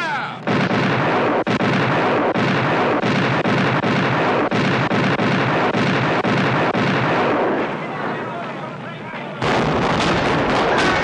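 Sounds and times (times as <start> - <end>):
cannon broadside blasts: 0.4 - 8.5, 9.4 - 11.0.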